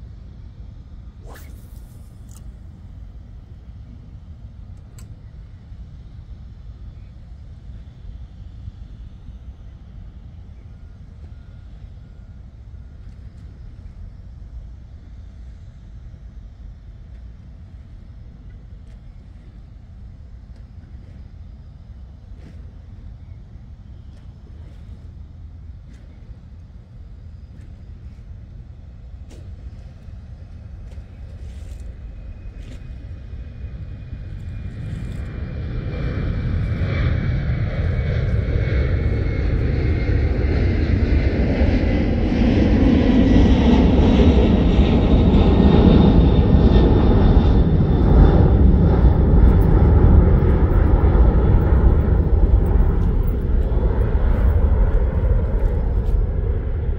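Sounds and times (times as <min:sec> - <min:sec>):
airplane flying low overhead: 0:00.0 - 0:56.9
faint whine falling in pitch: 0:00.0 - 0:56.9.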